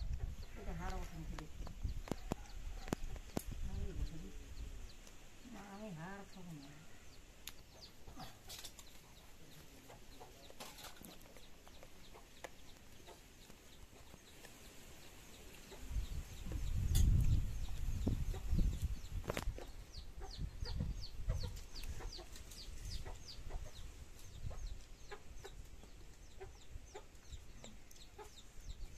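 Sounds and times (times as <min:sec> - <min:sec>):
chickens clucking: 0:00.0 - 0:28.9.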